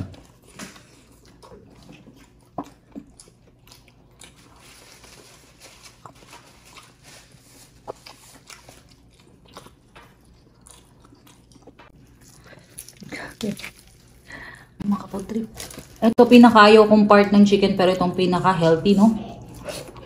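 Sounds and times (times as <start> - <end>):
people chewing: 0.0 - 16.1, 19.1 - 20.0.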